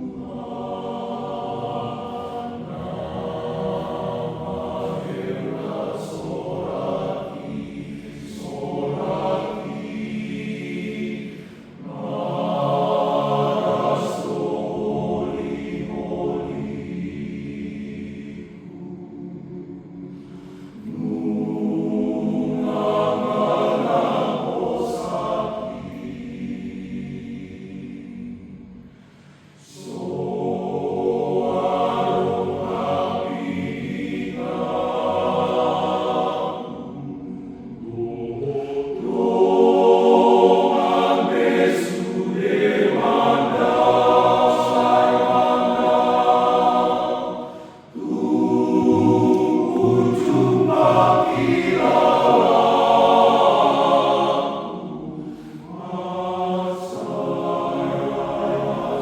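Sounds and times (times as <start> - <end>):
men's choir singing a hymn: 0.0 - 59.0.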